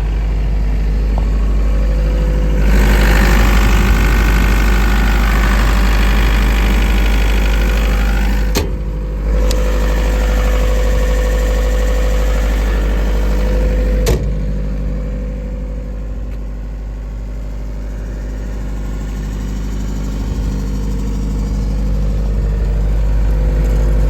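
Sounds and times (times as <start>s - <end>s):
diesel generator running: 0.0s - 24.0s.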